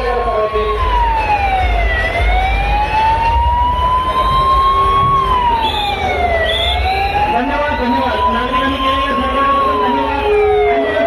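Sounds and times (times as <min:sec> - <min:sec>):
ambulance siren wailing: 0:00.0 - 0:11.0.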